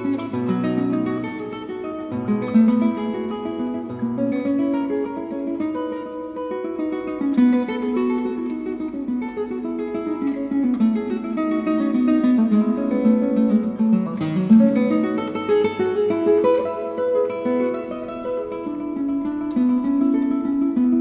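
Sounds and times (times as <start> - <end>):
flamenco-style acoustic guitar: 0.0 - 21.0.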